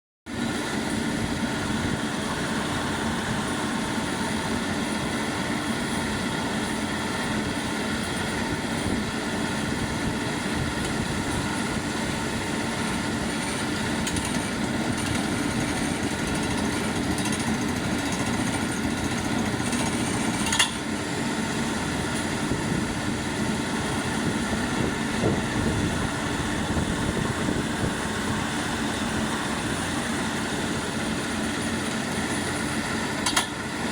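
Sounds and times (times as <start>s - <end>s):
drilling rig engines running: 0.3s - 33.9s
air compressor running: 0.4s - 33.9s.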